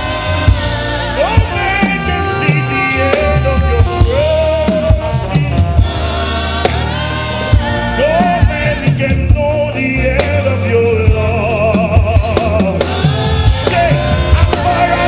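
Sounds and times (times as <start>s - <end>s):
bass: 0.0s - 15.0s
drum kit: 0.0s - 15.0s
person singing with vibrato: 0.0s - 15.0s.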